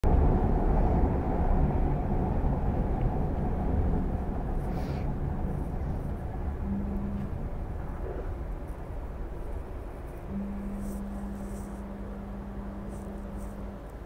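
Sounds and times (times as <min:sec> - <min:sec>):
train car rumbling: 0:00.0 - 0:14.0.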